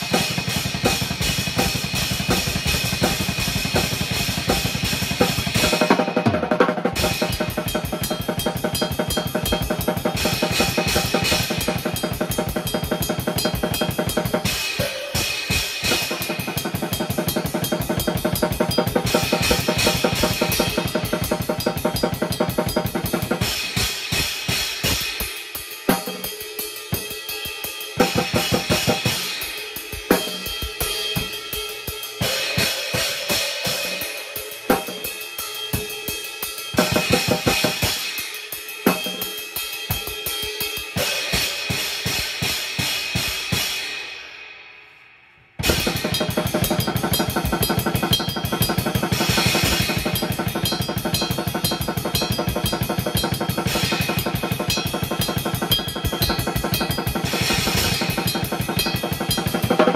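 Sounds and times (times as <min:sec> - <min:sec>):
drum kit groove: 0:00.0 - 0:44.4, 0:45.6 - 0:59.9.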